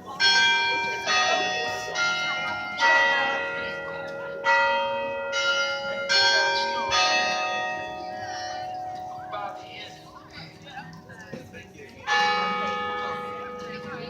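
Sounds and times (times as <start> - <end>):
tower bells ringing a melody: 0.0 - 14.0.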